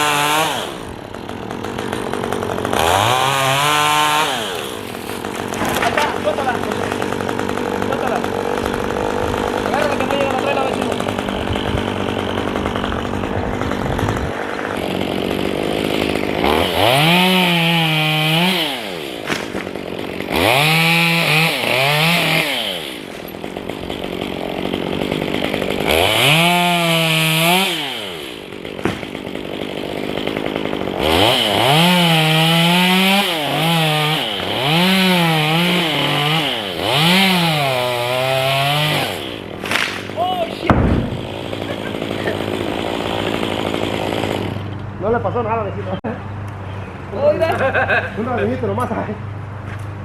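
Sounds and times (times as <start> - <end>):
chainsaw revving and idling: 0.0 - 46.0.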